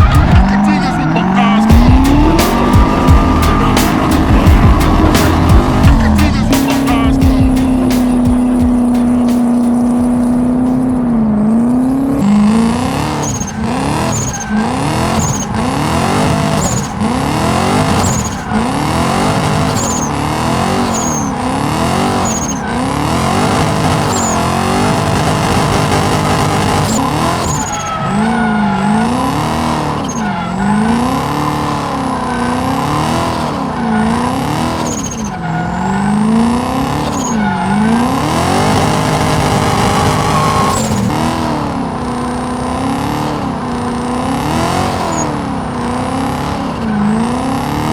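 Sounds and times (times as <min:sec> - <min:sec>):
car engine revving: 0:00.0 - 0:47.9
tyres squealing: 0:00.0 - 0:47.9.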